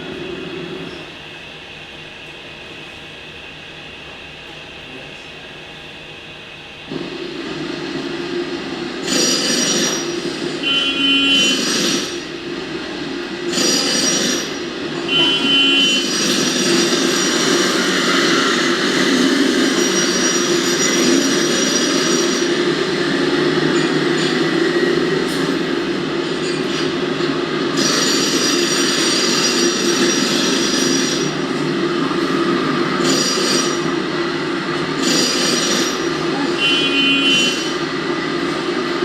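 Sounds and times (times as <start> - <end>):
dense mechanical noise: 0.0 - 39.0.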